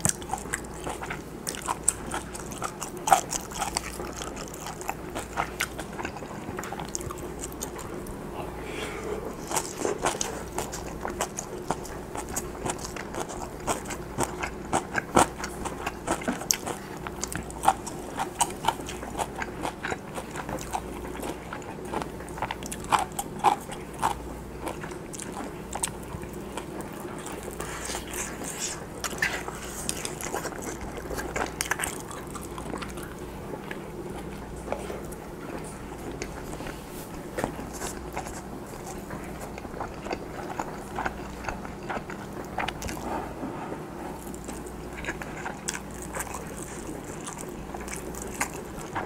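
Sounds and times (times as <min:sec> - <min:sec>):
close chewing food: 0:00.0 - 0:49.0.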